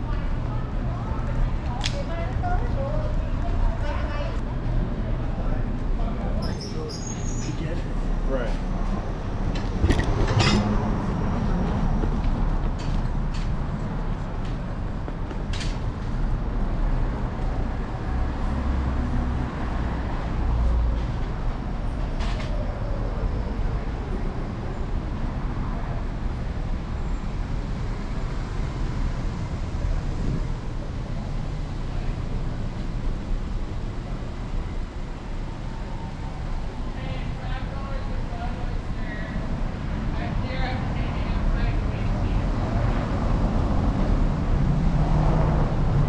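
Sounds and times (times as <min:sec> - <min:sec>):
street traffic: 0:00.0 - 0:46.0
scooter wind and road rumble: 0:07.8 - 0:46.0.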